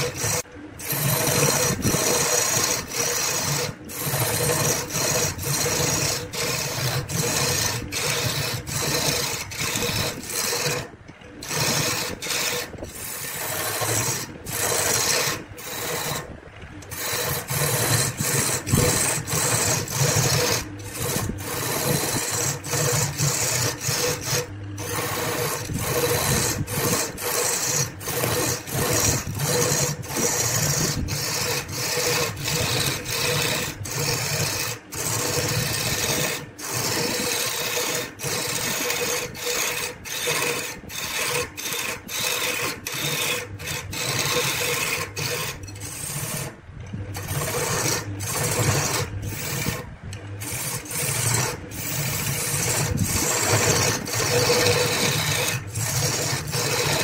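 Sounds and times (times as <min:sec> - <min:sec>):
chisel scraping spinning wood: 0:00.0 - 0:57.0
lathe humming: 0:00.0 - 0:57.0.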